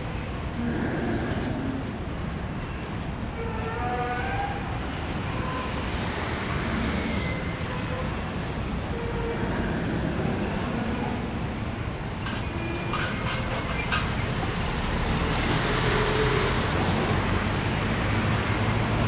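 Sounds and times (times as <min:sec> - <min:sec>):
rumbling vehicle noise: 0:00.0 - 0:19.0.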